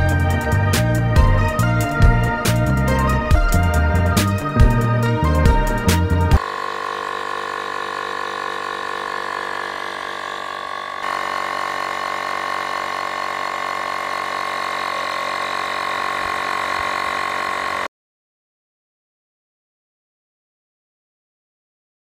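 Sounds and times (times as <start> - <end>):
tyre inflator compressor whining: 0.0 - 17.9.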